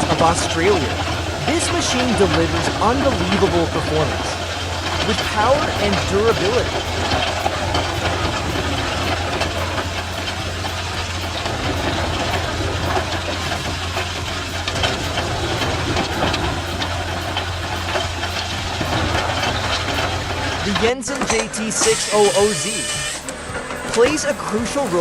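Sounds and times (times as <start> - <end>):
wood chipper running: 0.0 - 25.0.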